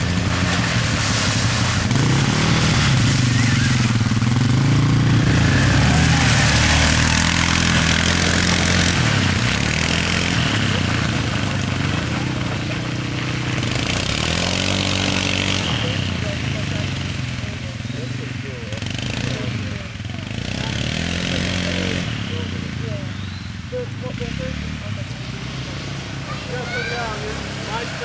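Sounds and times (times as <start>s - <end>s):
churning mud and water hiss: 0.0s - 23.2s
atv engines revving: 0.0s - 28.0s.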